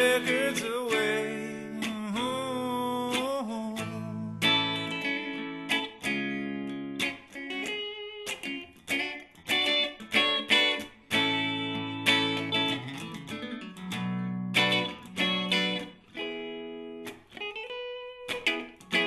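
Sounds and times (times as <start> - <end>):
guitar chords ringing: 0.0 - 19.0.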